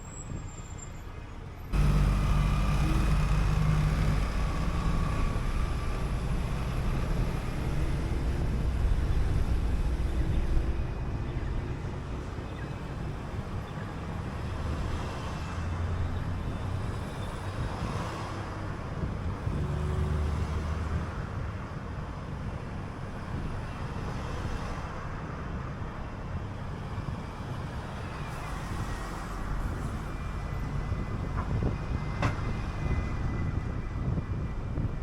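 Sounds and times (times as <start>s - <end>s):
bus engine drone: 0.0s - 35.0s
road and tyre noise: 0.0s - 35.0s.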